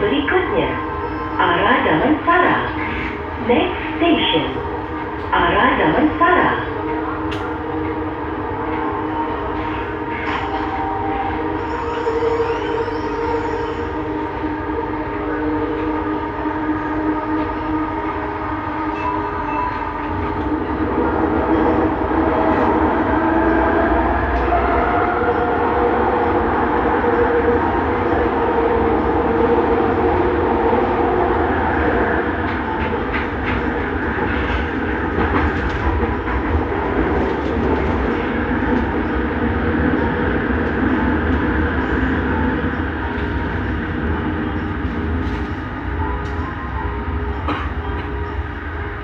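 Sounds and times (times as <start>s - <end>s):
train rumbling: 0.0s - 49.0s.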